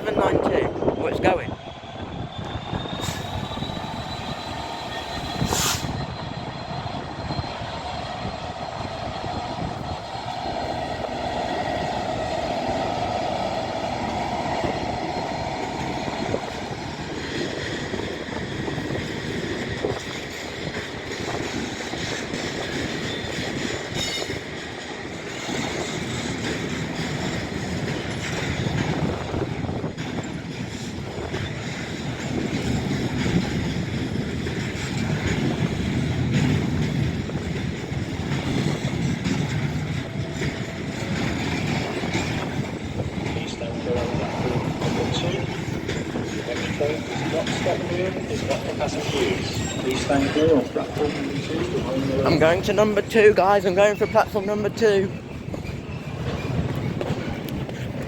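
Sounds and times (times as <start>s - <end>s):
freight train rumbling by: 0.0s - 58.0s
wheels squealing on rails: 0.0s - 58.0s.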